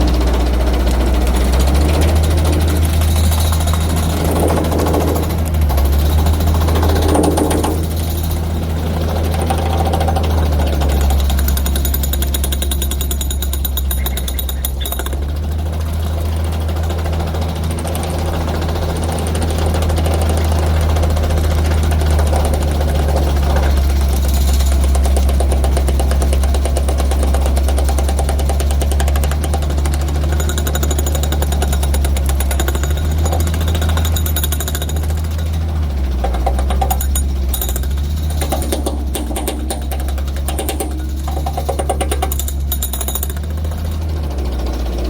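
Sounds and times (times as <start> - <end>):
engine drone: 0.0 - 45.0
chipping hammer rattling on concrete: 0.1 - 45.0.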